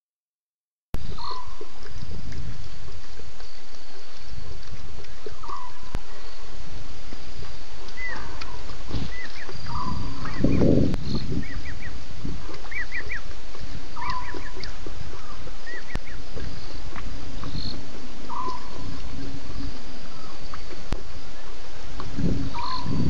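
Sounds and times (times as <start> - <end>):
frogs chirping: 1.0 - 23.0
steady low rumble: 1.0 - 23.0.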